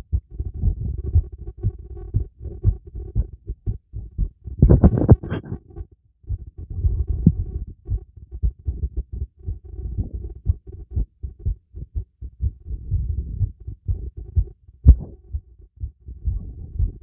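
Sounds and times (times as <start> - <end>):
heartbeat thumps: 0.0 - 17.0.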